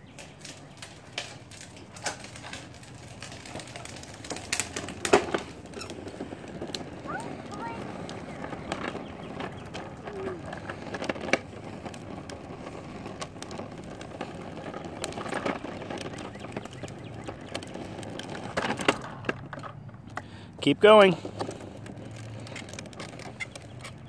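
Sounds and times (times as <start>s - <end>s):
tricycle wheels rumbling on pavement: 0.0s - 24.0s.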